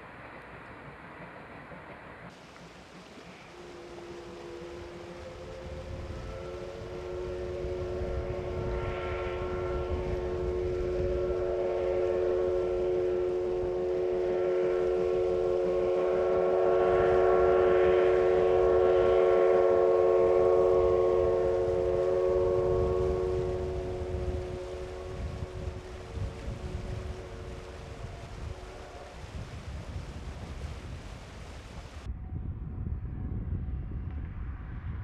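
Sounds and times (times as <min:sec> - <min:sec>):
steam locomotive passing: 0:00.0 - 0:32.1, 0:33.3 - 0:35.0
multi-tone train whistle: 0:02.3 - 0:31.1.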